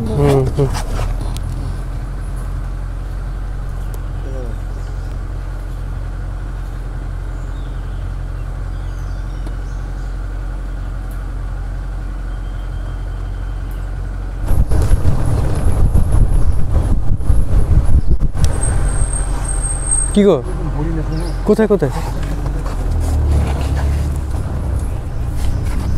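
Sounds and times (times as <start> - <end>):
jeep engine: 0.0 - 25.9
jeep rumbling over dirt trail: 0.0 - 25.9.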